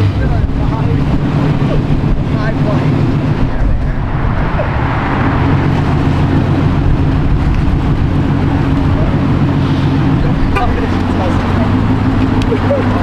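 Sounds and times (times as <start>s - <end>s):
car engine running loudly: 0.0s - 13.0s.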